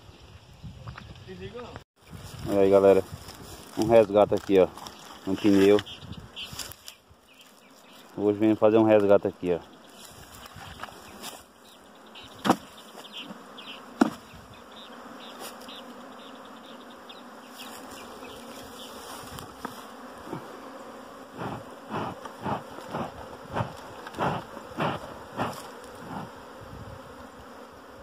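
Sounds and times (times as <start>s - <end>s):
honeybee colony buzzing: 2.0s - 28.0s.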